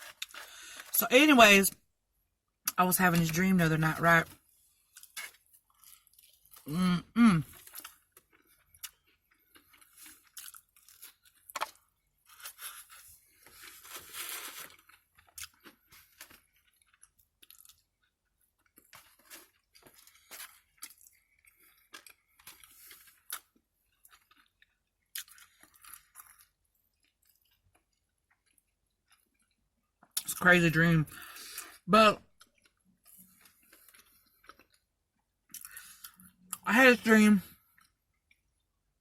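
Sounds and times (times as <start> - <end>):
person chewing fried food: 0.0 - 0.9, 4.3 - 30.3, 31.1 - 36.6, 37.5 - 39.0.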